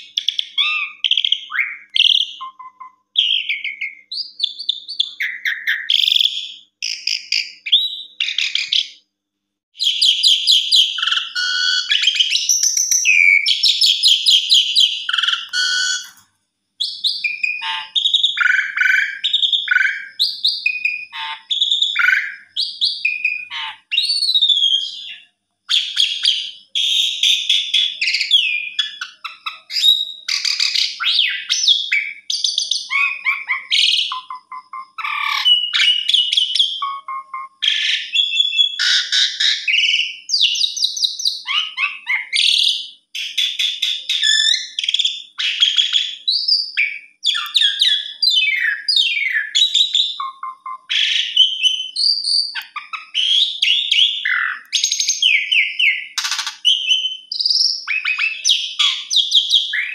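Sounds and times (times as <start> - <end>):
starling singing: 0.0 - 9.0, 9.8 - 16.2, 16.8 - 59.9.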